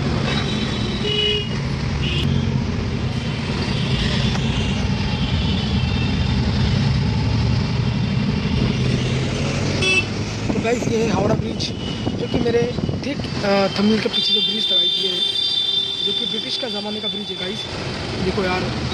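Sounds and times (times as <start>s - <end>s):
low rumble of engine and road: 0.0s - 15.2s, 15.9s - 18.9s.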